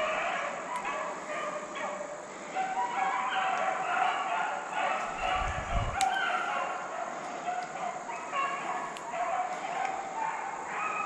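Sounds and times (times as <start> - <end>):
distant hounds baying: 0.0 - 11.0.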